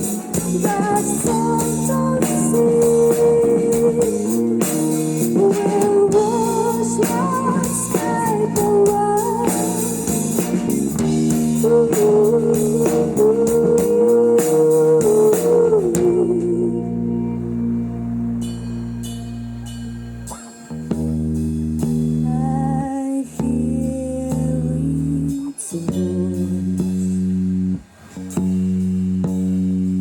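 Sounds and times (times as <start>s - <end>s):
bass guitar: 0.0s - 30.0s
drum kit: 0.0s - 30.0s
electric guitar bending notes: 0.0s - 30.0s.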